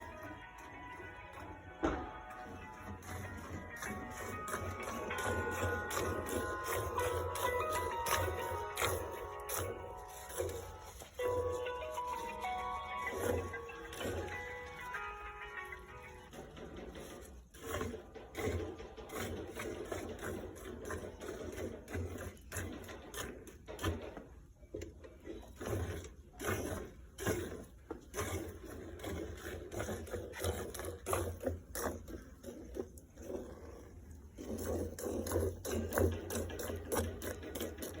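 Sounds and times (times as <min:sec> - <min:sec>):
milking strokes: 0:00.0 - 0:38.0.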